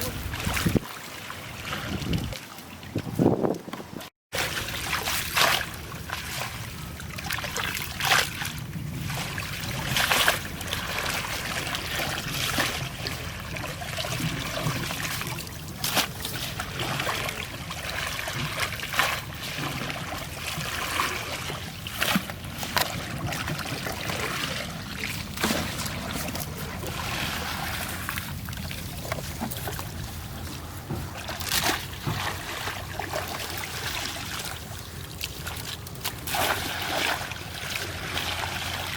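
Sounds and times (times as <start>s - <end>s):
water splashes: 0.0s - 38.9s.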